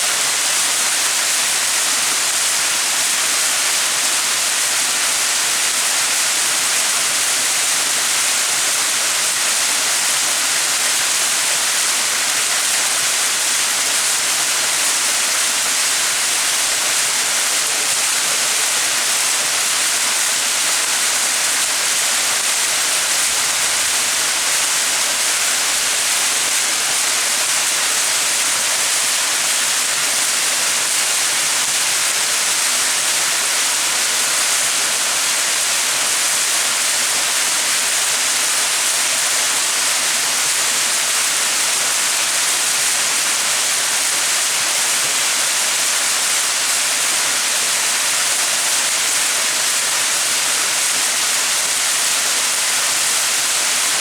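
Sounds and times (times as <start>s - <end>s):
waterfall splashing: 0.1s - 54.0s.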